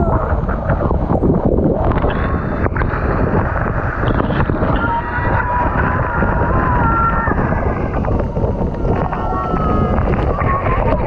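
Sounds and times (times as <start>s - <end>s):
wind buffeting microphone: 0.0s - 11.0s
waterfall rushing: 1.8s - 11.0s.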